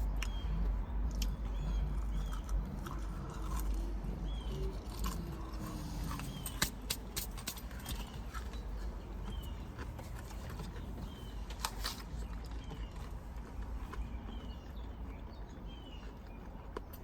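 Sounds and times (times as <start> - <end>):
chewing crunchy fried food: 0.0 - 17.0
crunchy clicks: 0.0 - 17.0.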